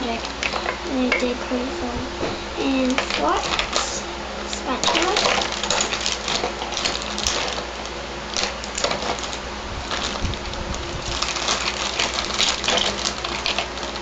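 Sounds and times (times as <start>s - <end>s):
plastic toys and packaging handled: 2.8s - 14.0s.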